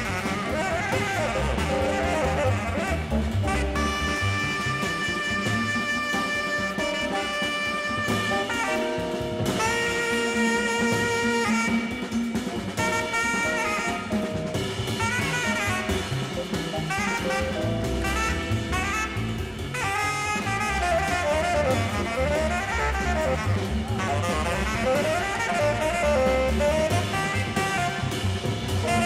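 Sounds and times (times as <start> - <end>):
bass: 0.0 - 29.0
drum kit: 0.0 - 29.0
tenor saxophone soloing: 0.0 - 29.0.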